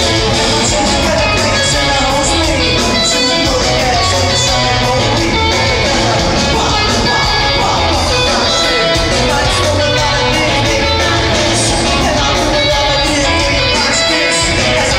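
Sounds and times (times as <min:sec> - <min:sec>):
live rock music with electric guitar: 0:00.0 - 0:14.9.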